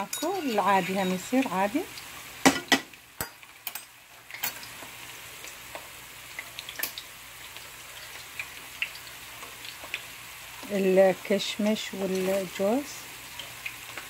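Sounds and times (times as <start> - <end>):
meat frying in a pan: 0.0 - 14.0.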